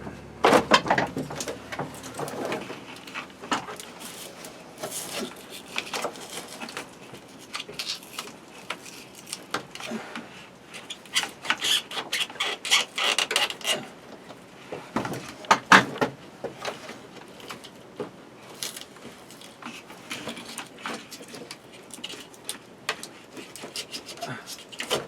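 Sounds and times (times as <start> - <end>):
rustling of hands handling things: 0.6 - 25.0.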